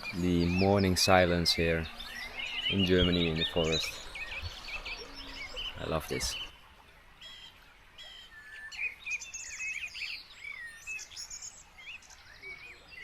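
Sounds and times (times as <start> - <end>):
songbirds singing and chirping: 0.0 - 13.0.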